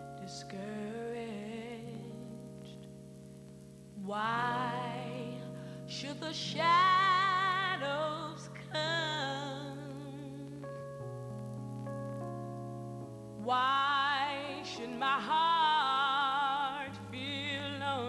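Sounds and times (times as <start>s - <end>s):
singing voice with wide vibrato: 0.0s - 3.1s, 4.0s - 10.9s, 13.4s - 18.0s
held instrumental chords: 0.0s - 18.0s.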